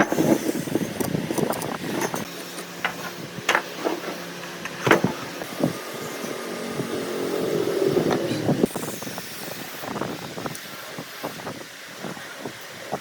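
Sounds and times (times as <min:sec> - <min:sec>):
low machine hum: 0:00.0 - 0:10.5.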